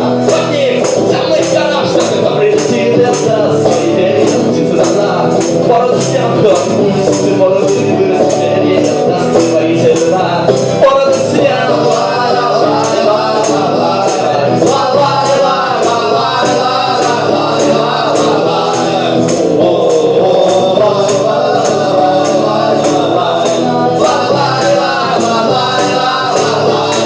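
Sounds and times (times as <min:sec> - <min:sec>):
tambourine beat: 0:00.0 - 0:27.0
voices singing: 0:00.0 - 0:27.0.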